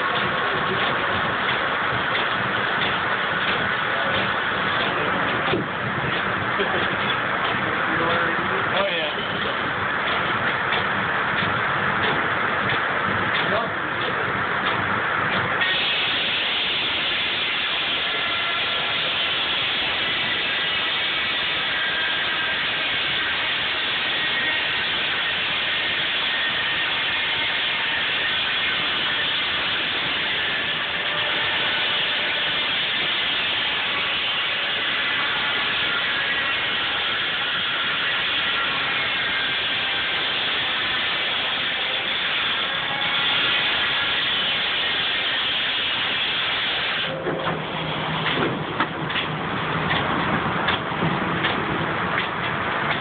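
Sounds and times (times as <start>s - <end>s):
sawmill machinery din: 0.0s - 53.0s.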